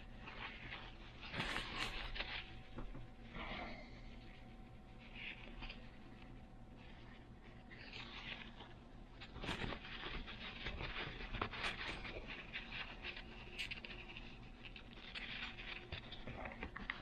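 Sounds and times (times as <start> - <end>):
paper towel rustling: 0.0 - 17.0.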